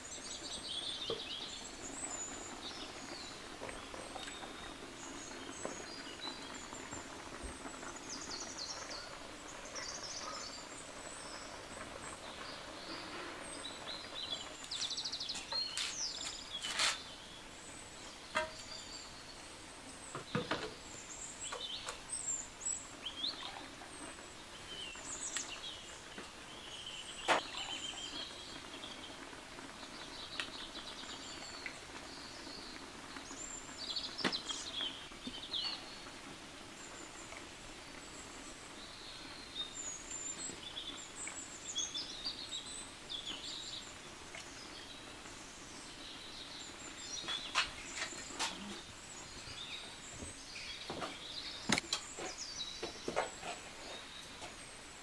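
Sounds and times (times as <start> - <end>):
low background hiss: 0.0 - 55.0
small birds chirping: 0.0 - 55.0.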